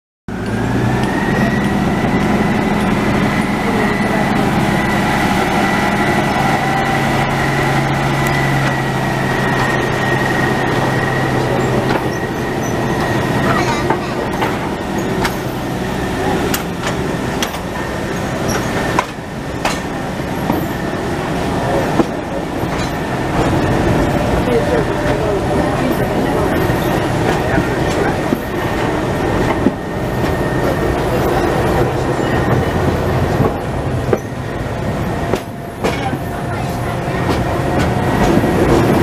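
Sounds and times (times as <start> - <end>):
diesel locomotive engine drone: 0.3 - 39.0
engine high whine: 0.3 - 39.0
train wheels clicking over rail joints: 0.3 - 39.0.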